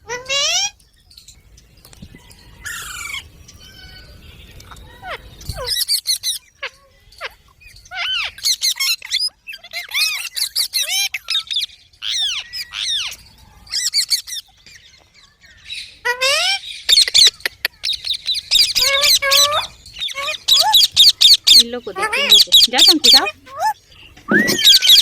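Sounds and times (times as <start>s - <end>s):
parakeets screeching: 0.0s - 0.8s, 2.6s - 14.9s, 15.5s - 25.0s.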